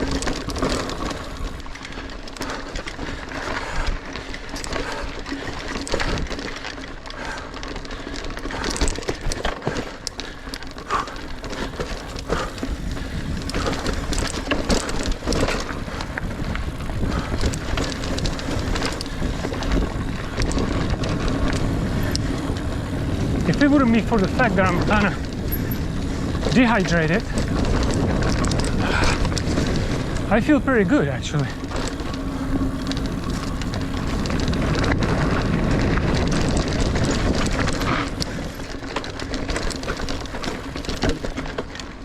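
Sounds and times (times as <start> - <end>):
bike rattling over bumps: 0.0 - 42.0
bike tyres rolling over dirt: 0.0 - 42.0.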